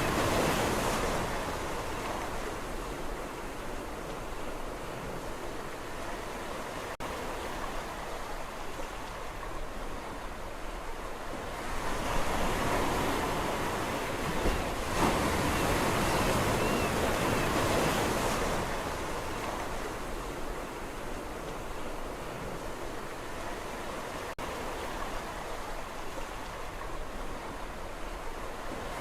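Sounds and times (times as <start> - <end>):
sea waves washing onto shore: 0.0 - 29.0.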